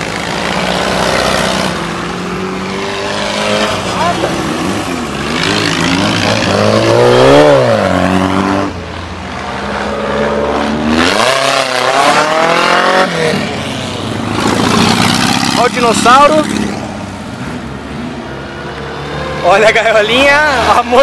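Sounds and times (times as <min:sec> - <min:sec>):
buggy engines revving: 0:00.0 - 0:21.0.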